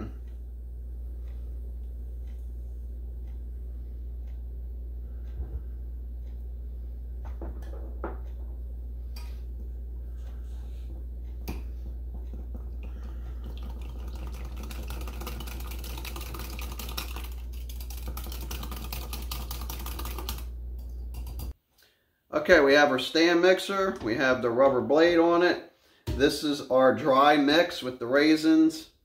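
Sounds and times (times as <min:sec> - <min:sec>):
steady low hum: 0:00.0 - 0:27.6.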